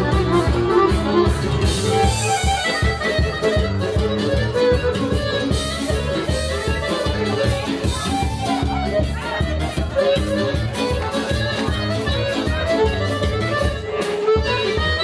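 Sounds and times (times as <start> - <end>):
folk dance music with accordion: 0.0 - 15.0.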